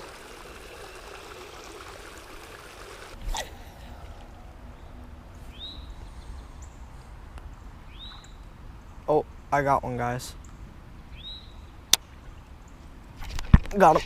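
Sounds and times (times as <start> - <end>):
pond water trickling: 0.0 - 13.9.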